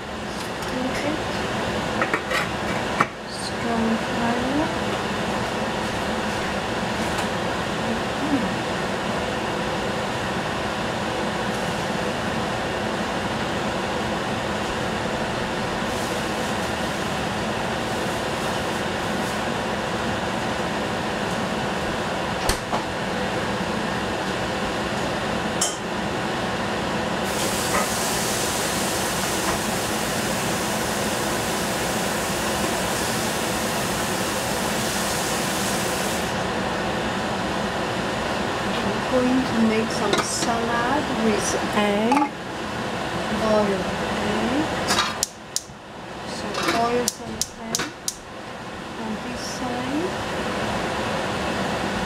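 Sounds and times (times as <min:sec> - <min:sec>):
gas burner rushing: 0:00.0 - 0:52.0.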